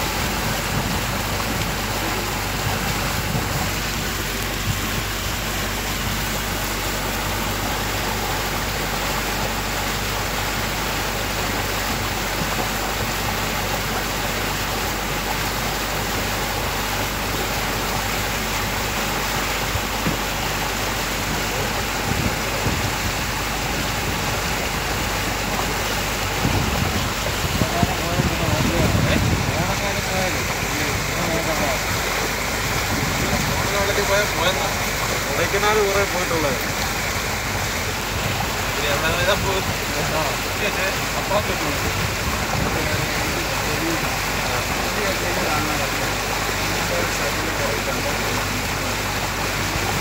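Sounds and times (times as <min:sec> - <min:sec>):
motorboat engine drone: 0:00.0 - 0:50.0
rush of water and air: 0:00.0 - 0:50.0.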